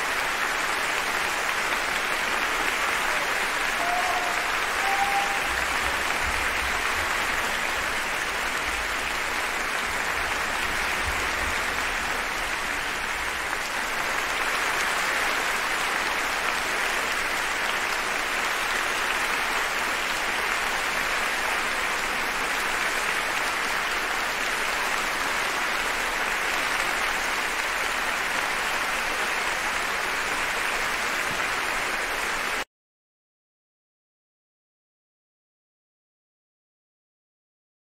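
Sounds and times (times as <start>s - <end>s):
audience applauding: 0.0s - 32.7s.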